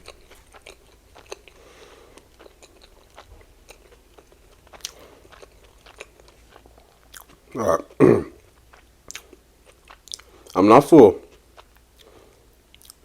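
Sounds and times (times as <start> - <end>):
wet chewing with mouth clicks: 0.0 - 10.6, 11.2 - 13.0.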